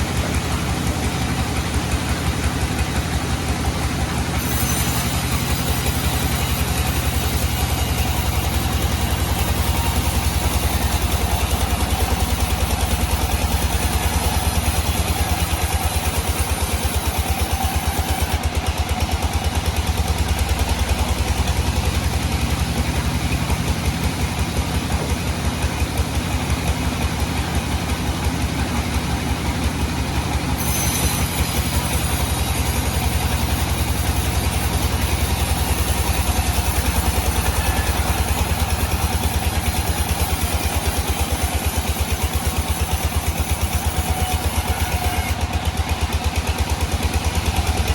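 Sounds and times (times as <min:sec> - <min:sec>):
engine thumping steadily: 0:00.0 - 0:47.9.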